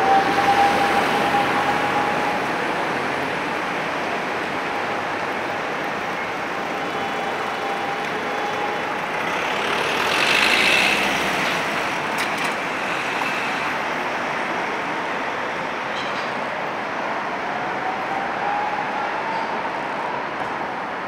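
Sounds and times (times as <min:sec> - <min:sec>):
tram pulling away: 0:00.0 - 0:20.7
city traffic noise: 0:00.0 - 0:21.0.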